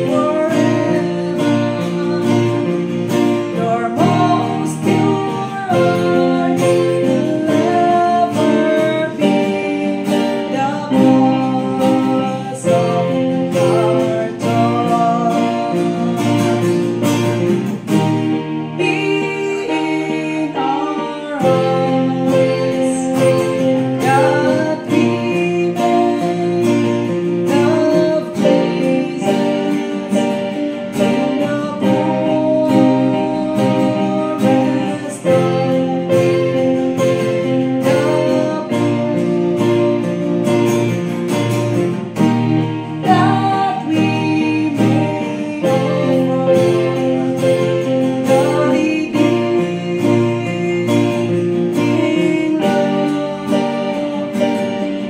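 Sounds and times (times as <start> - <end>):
acoustic guitar strumming: 0.0 - 55.0
keyboard held chords: 0.0 - 55.0
woman singing: 0.0 - 55.0.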